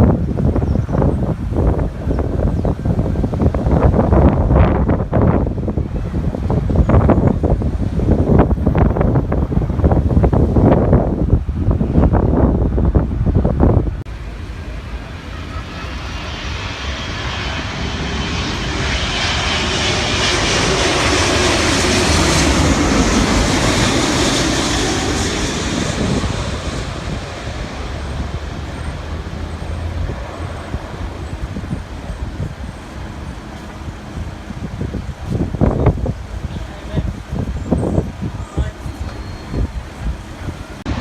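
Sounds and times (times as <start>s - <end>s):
jet airliner passing: 0.0s - 41.0s.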